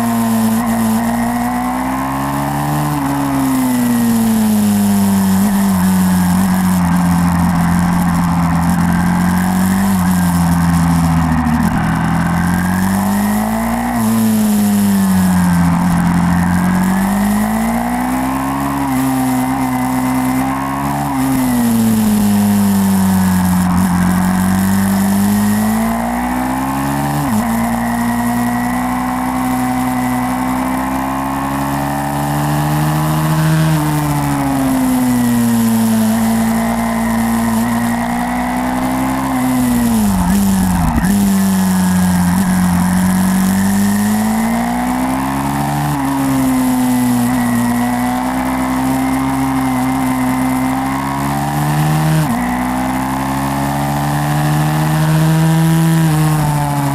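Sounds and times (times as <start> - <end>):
motorbike engine revving: 0.0 - 56.9.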